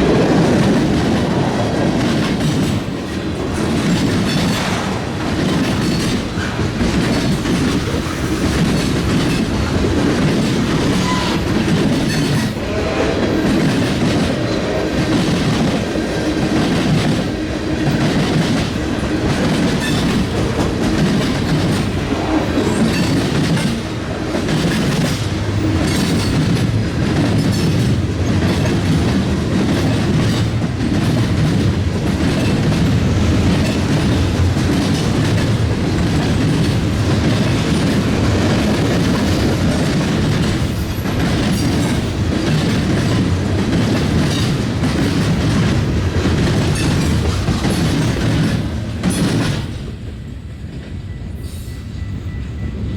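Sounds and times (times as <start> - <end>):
wheels clacking over rails: 0.0 - 50.0
railroad cars rolling past: 0.0 - 52.9.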